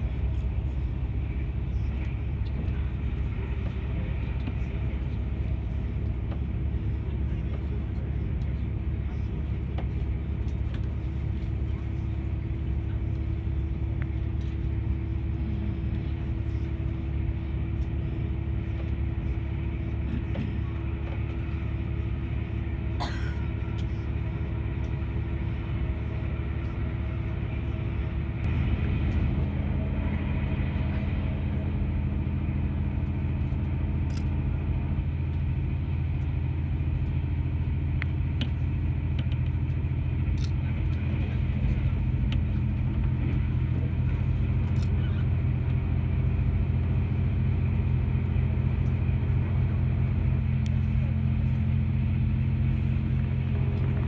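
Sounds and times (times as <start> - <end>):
droning hum: 0.0 - 54.0
train wheels rumbling: 0.0 - 54.0.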